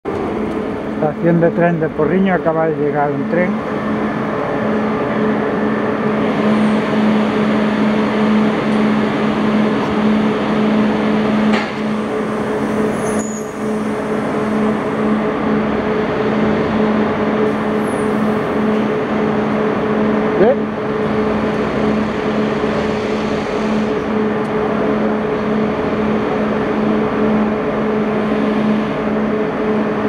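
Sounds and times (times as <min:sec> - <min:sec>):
train machinery humming: 0:00.0 - 0:30.0.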